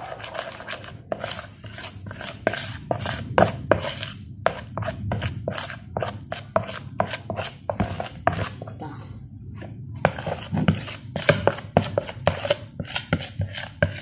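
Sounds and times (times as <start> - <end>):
spoon scraping a plastic bowl: 0.0 - 8.7, 9.6 - 14.0.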